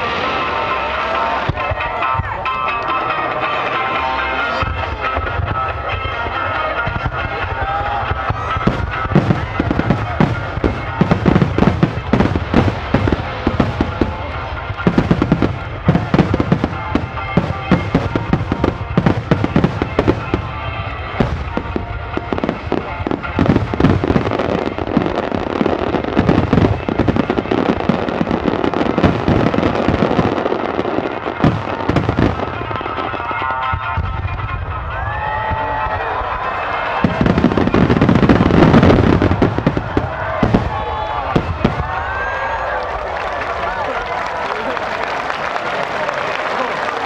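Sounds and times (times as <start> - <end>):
music: 0.0 - 47.0.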